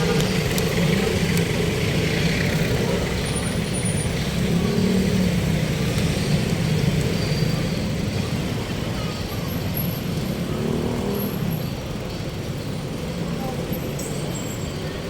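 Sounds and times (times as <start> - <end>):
road traffic engines humming: 0.0 - 15.0.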